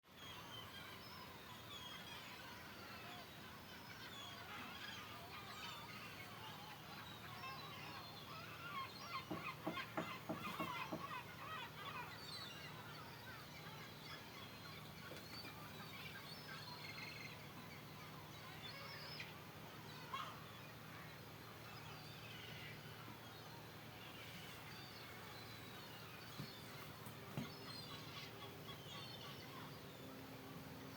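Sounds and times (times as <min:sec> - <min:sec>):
gulls calling: 0:00.3 - 0:30.9.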